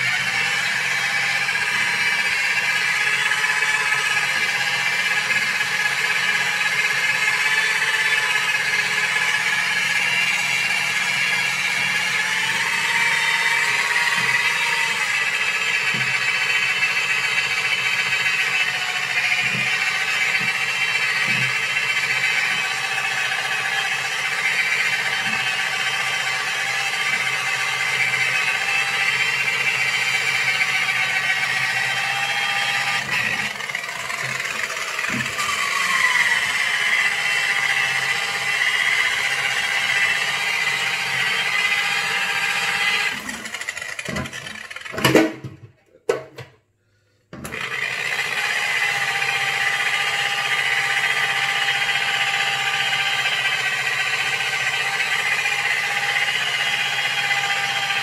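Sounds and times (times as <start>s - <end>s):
electric buffer whining: 0.0s - 45.3s, 47.4s - 58.0s.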